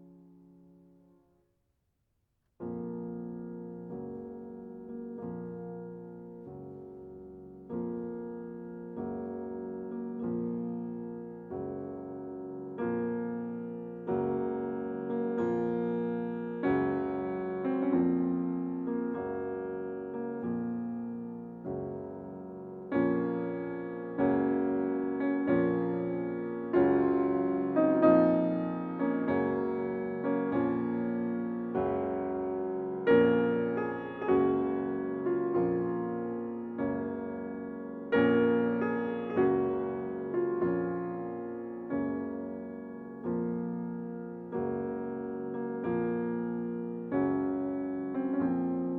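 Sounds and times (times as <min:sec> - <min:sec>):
piano chords: 0:02.6 - 0:48.9.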